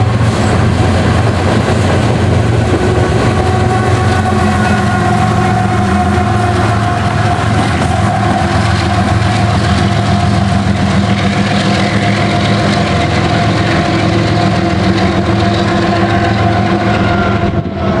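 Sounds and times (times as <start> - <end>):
diesel locomotive engines droning: 0.0 - 18.0
train cars rumbling on rails: 0.0 - 18.0.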